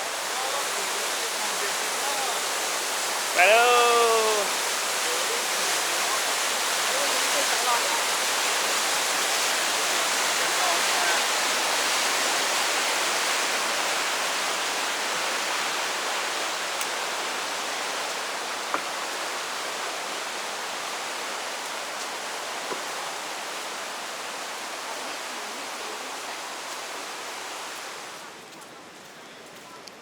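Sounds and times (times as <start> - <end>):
waterfall rushing: 0.0 - 28.4.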